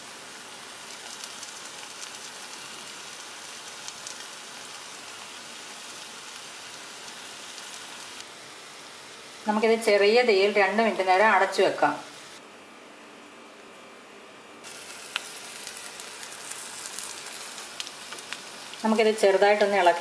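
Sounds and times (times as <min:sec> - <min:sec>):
masala sizzling in a pan: 0:00.0 - 0:12.4, 0:14.6 - 0:20.0.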